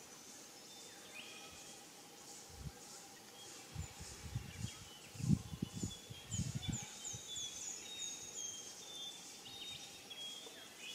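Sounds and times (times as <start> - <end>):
forest birds calling: 0.0 - 10.9.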